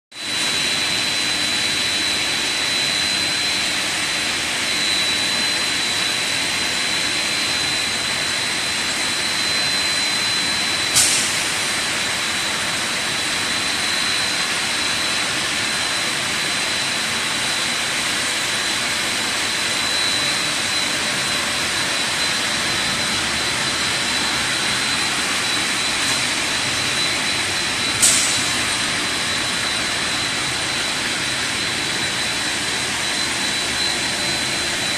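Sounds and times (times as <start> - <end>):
extrusion machinery rush and whine: 0.1 - 34.9.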